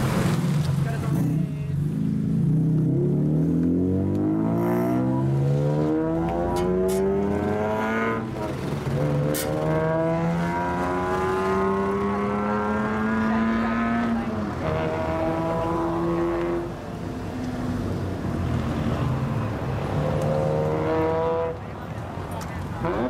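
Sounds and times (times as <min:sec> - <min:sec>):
car engine accelerating: 0:01.0 - 0:21.7.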